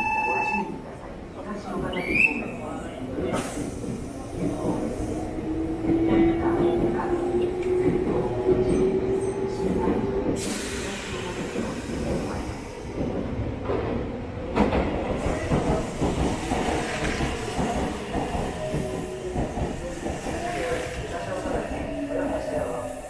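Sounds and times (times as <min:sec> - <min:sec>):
train motors and wheels rumbling: 0:03.4 - 0:23.0.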